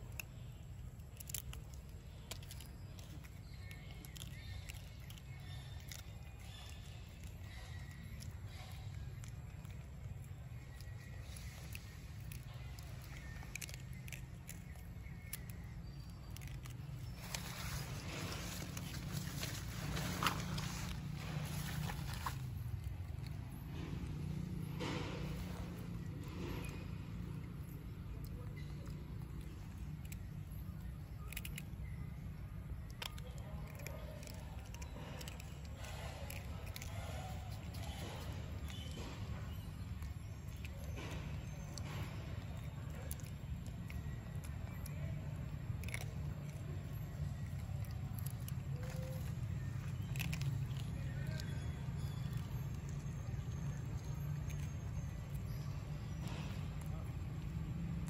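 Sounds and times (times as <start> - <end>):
dry noodles crunching: 0.0 - 58.0
steady low rumble: 0.0 - 58.0.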